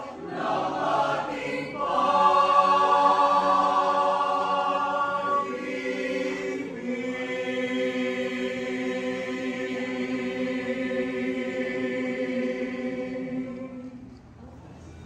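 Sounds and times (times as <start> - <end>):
mixed choir singing chord: 0.0 - 14.2.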